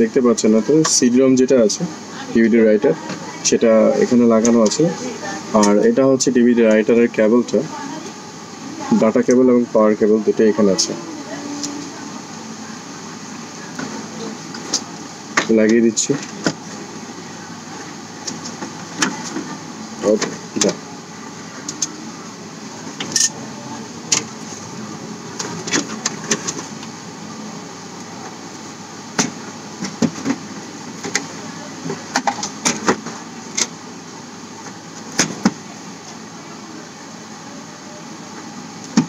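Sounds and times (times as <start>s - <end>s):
room noise: 0.0s - 39.0s.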